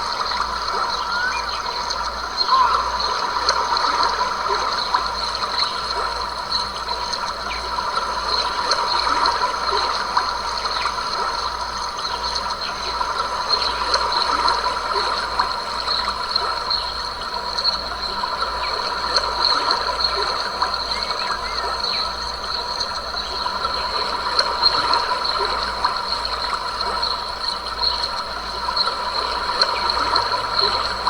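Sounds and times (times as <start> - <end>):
stream trickling over rocks: 0.0 - 31.0.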